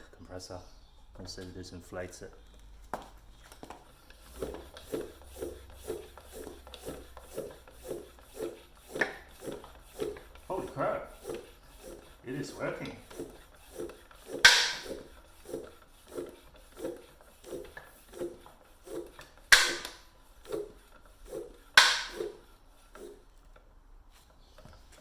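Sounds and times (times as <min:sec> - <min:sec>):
floor pump strokes: 0:01.2 - 0:25.0.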